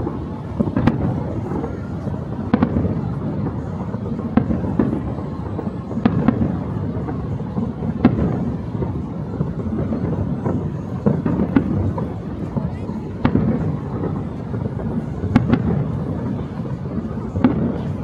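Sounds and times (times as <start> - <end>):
fireworks booming rumble: 0.0 - 18.0
sharp firework bangs: 0.0 - 18.0.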